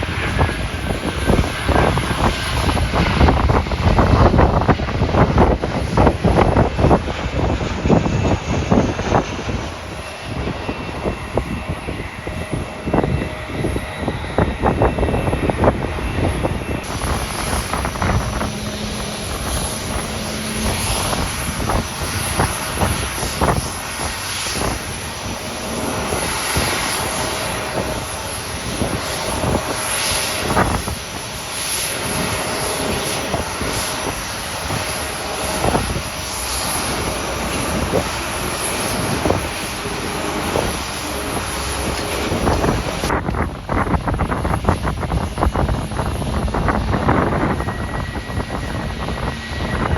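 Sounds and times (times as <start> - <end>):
airliner engines running: 0.0 - 49.9
wind buffeting microphone: 0.0 - 49.9.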